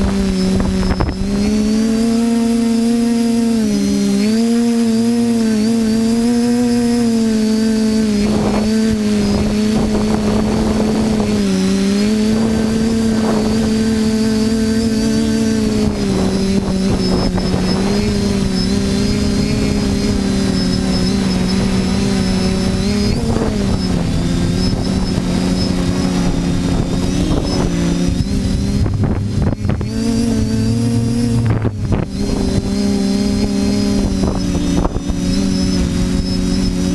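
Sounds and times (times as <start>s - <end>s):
quadcopter motors buzzing: 0.0s - 36.9s
rushes of noise: 0.0s - 36.9s.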